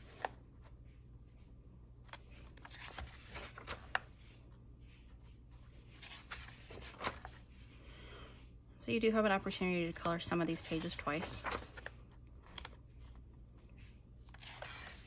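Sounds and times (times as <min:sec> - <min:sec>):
paper pages rustling: 0:00.0 - 0:07.6, 0:10.3 - 0:15.0.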